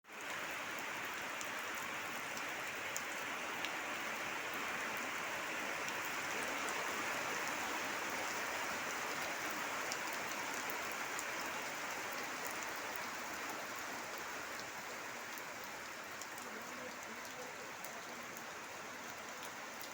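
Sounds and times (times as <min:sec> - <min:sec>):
steady rain hiss: 0:00.1 - 0:19.9.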